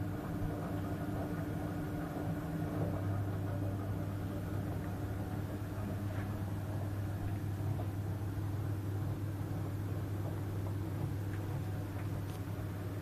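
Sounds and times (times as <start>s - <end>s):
boiler kettling rumble: 0.0s - 13.0s
gas boiler humming: 0.0s - 13.0s.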